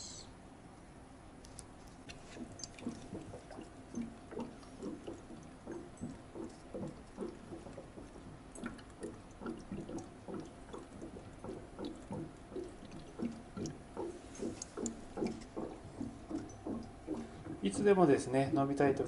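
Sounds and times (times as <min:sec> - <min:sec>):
water glugging into tank: 0:02.2 - 0:19.0.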